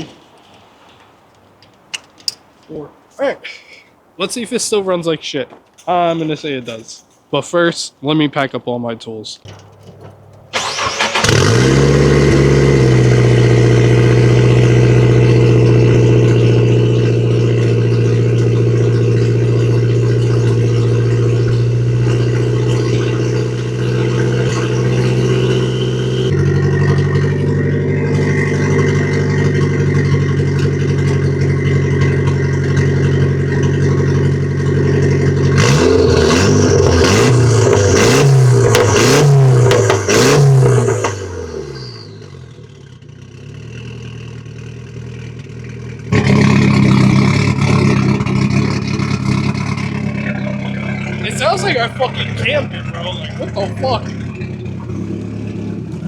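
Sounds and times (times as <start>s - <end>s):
car engine idling and revving: 9.5s - 56.0s
engine misfiring: 9.5s - 56.0s.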